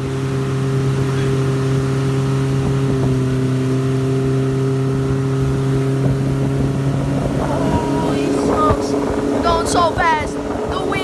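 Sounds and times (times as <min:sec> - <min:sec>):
speedboat motor at full throttle: 0:00.0 - 0:11.0.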